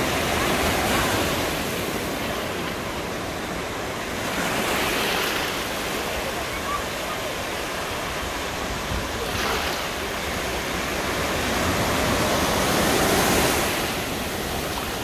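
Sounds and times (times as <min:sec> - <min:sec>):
waves breaking in shallows: 0:00.0 - 0:15.0.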